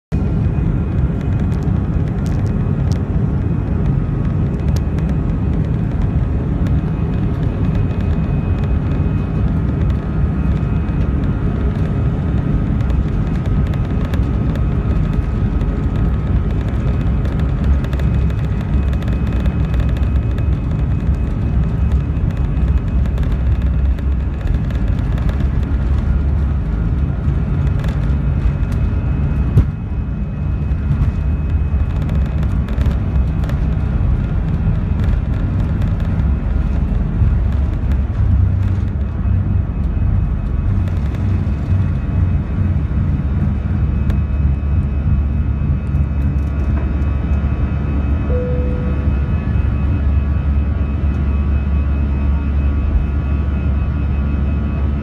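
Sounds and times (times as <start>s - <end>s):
jet engine cabin rumble: 0.1s - 55.0s.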